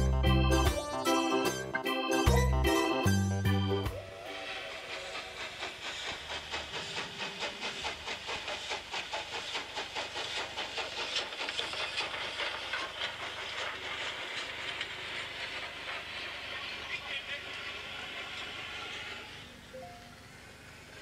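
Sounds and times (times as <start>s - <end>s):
steam train chuffing: 0.0s - 21.0s
steam hiss: 3.9s - 21.0s.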